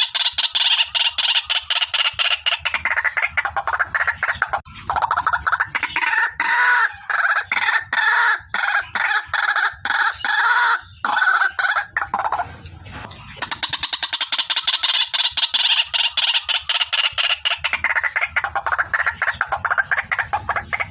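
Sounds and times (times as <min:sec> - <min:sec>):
waterhen harsh croaking calls: 0:00.0 - 0:20.9.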